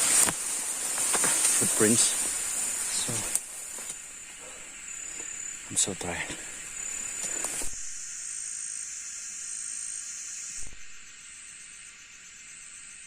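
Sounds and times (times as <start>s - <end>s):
insects shrilling: 0.0s - 13.0s.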